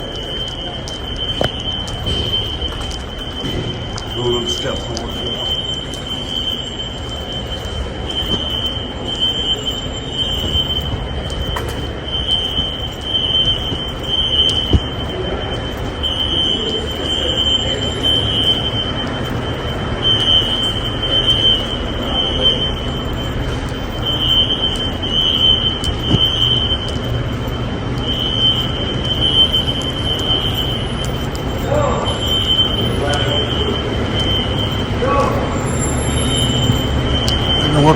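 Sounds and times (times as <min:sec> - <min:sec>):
fire alarm horns pulsing: 0:00.0 - 0:37.9.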